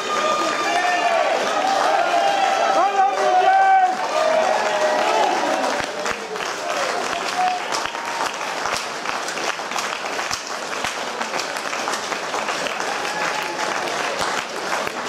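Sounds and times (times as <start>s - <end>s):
hands clapping: 0.0s - 15.0s.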